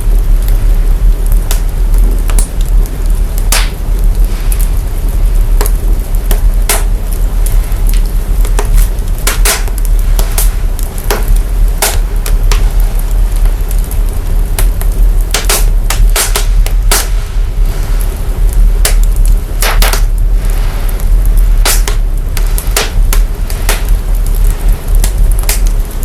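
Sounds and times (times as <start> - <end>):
deep bass rumble: 0.0 - 26.0
fire crackling and popping: 0.0 - 26.0.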